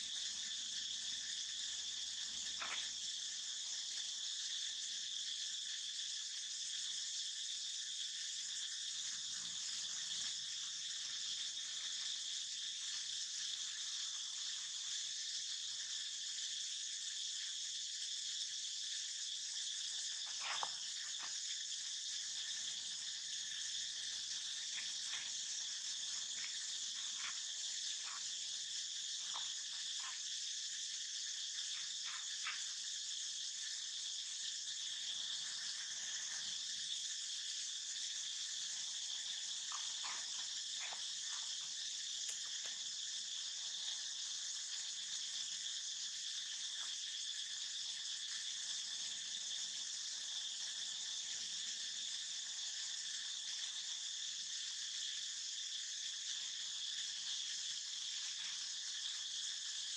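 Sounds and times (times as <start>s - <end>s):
insect chorus droning: 0.0s - 59.9s.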